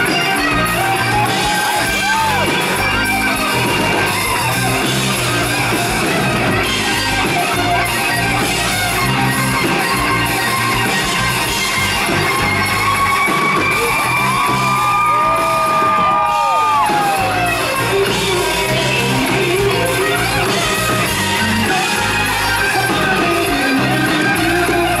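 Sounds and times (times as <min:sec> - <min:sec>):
electric guitar: 0:00.0 - 0:25.0
live rock band playing: 0:00.0 - 0:25.0.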